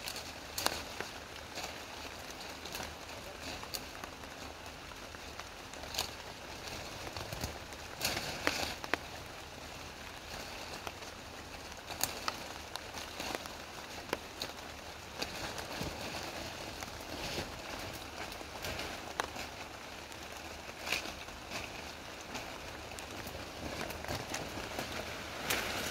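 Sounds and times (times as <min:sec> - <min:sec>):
brush crackling and breaking: 0:00.0 - 0:25.9
rain falling on undergrowth: 0:00.0 - 0:25.9.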